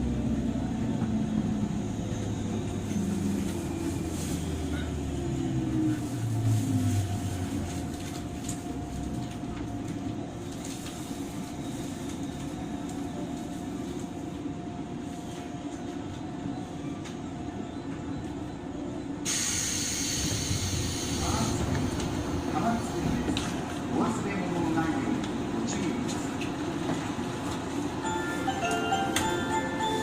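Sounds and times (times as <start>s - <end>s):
train wheels rumbling on rail: 0.0s - 18.4s, 19.2s - 30.0s.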